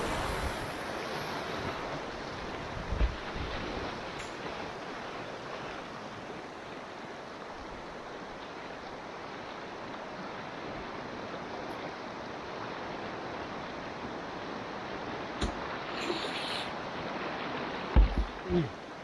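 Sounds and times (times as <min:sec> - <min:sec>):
river water rushing and splashing: 0:00.0 - 0:19.0.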